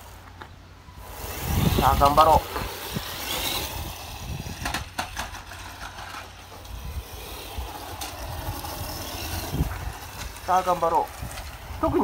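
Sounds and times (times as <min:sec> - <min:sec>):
toy car tyres crunching gravel: 0:00.0 - 0:12.0.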